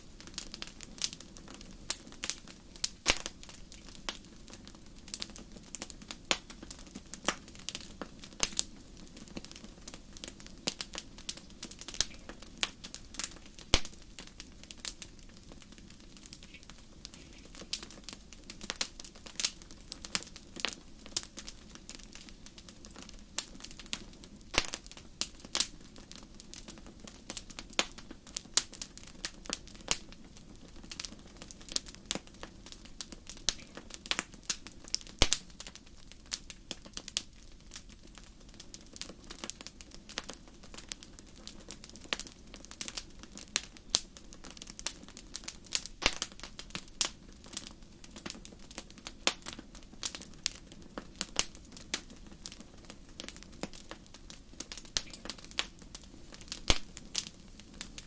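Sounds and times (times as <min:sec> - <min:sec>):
low hiss of burning logs: 0:00.0 - 0:58.0
wood fire crackling and popping: 0:00.0 - 0:58.0.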